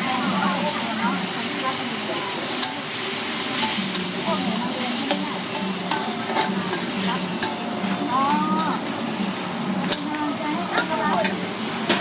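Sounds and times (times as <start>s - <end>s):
food sizzling in a wok: 0.0s - 12.0s
metal spatula scraping a wok: 0.2s - 12.0s.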